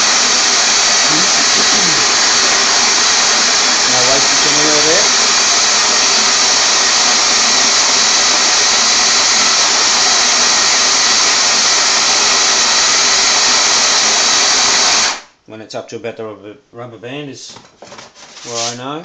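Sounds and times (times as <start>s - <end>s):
electric coffee grinder grinding: 0.0s - 15.3s.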